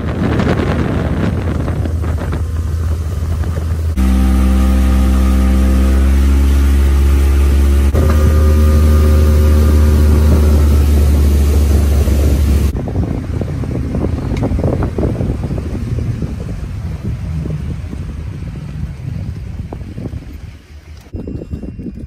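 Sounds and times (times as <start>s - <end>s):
motorboat engine running: 0.0s - 22.0s
wind and rumbling noise: 0.0s - 22.0s.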